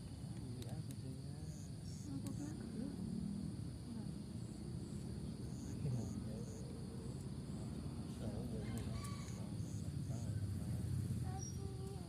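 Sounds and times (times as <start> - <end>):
insect high chirps: 0.0 - 12.0
insects trilling: 0.0 - 12.0.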